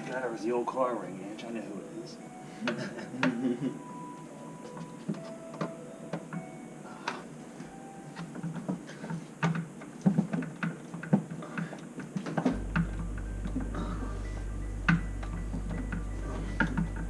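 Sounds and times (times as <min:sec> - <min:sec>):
background music: 0:00.0 - 0:09.4, 0:12.5 - 0:17.0.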